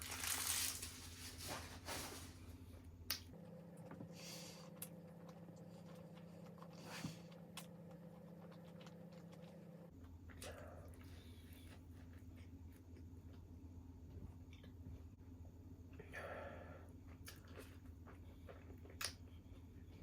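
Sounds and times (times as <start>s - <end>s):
eating and food handling: 0.0s - 2.4s, 3.8s - 15.2s, 17.0s - 20.0s
low steady hum: 0.0s - 20.0s.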